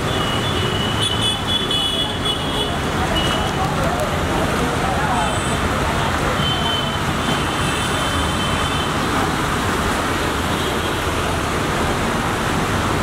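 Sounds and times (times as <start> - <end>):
rush of rain and water: 0.0 - 13.0
vehicle engines: 0.0 - 13.0.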